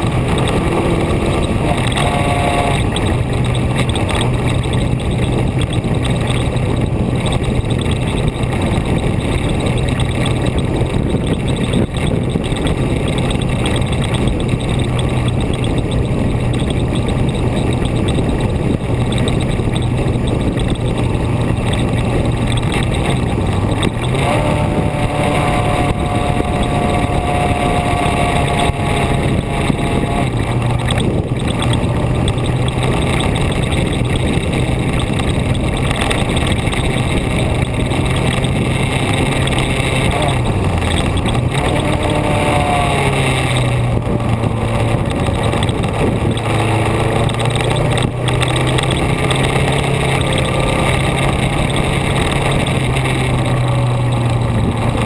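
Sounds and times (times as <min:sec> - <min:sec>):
higher engine tone: 0:00.0 - 0:55.0
low engine drone: 0:00.0 - 0:55.0
road and wind noise: 0:00.0 - 0:55.0.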